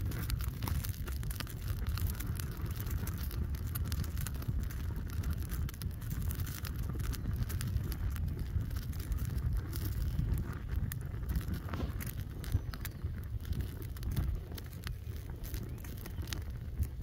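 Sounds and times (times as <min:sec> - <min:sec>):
fire burning with crackles: 0:00.0 - 0:17.0.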